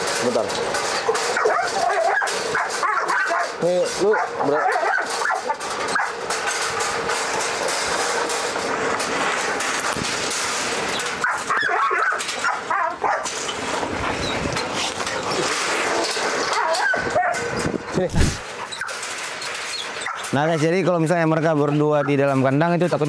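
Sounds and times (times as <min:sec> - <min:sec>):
dogs barking in metal cage: 0:00.0 - 0:23.0.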